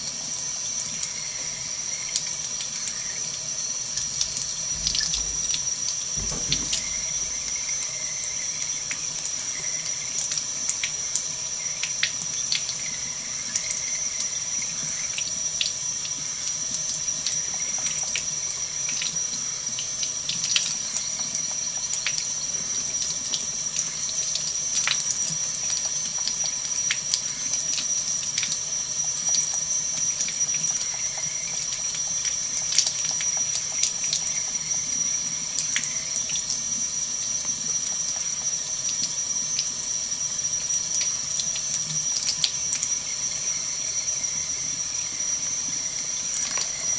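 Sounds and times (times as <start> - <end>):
faucet running into sink: 0.0 - 46.9.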